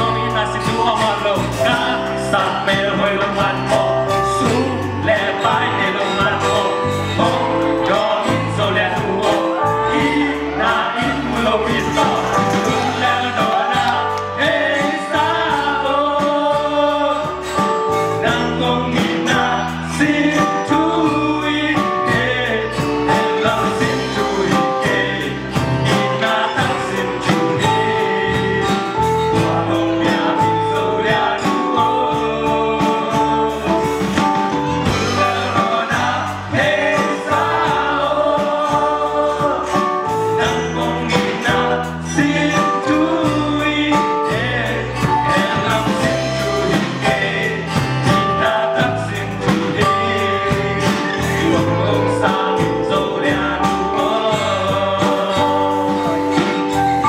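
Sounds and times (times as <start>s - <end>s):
male voices singing together: 0.0s - 56.8s
acoustic guitar: 0.0s - 57.0s
electric bass: 0.0s - 57.0s
keyboard: 0.0s - 57.0s.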